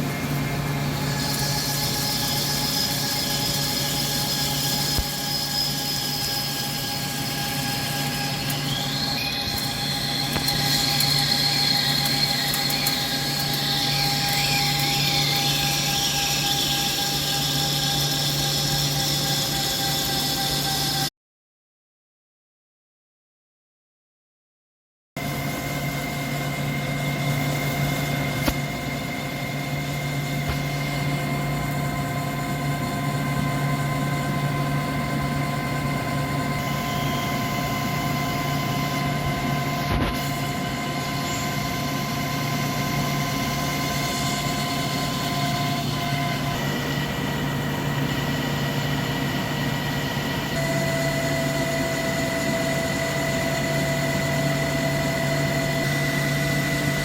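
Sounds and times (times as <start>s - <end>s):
high machine whine: 0.0s - 21.1s, 25.2s - 57.0s
lathe motor hum: 0.0s - 21.1s, 25.2s - 57.0s.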